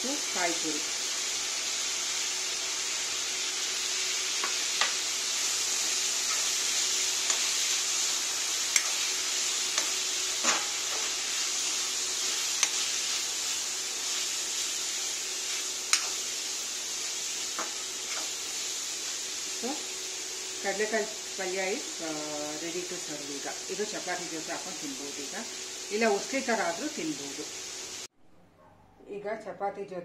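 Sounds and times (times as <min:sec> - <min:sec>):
food sizzling: 0:00.0 - 0:28.1.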